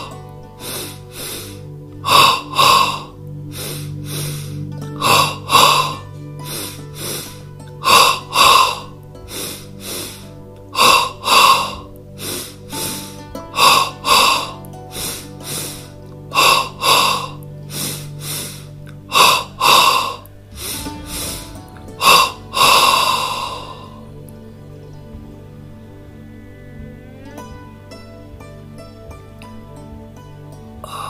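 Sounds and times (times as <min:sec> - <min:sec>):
man breathing forcefully: 0:00.0 - 0:25.4, 0:30.8 - 0:31.0
soft background music: 0:00.0 - 0:31.0.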